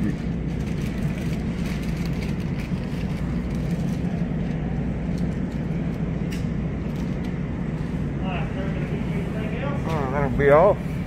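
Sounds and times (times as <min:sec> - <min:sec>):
supermarket background rumble: 0:00.0 - 0:11.0.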